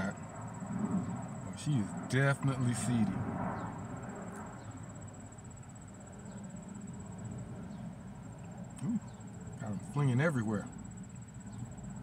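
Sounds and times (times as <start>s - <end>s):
cricket-like insect trill: 0.0s - 12.0s
low steady hum: 0.0s - 12.0s.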